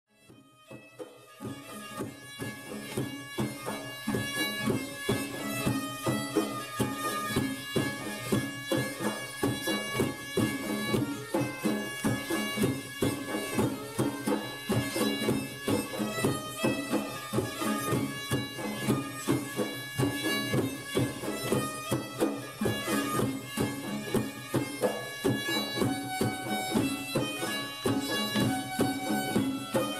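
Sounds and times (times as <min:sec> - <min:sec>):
folk music with wind instrument: 0:00.1 - 0:29.9.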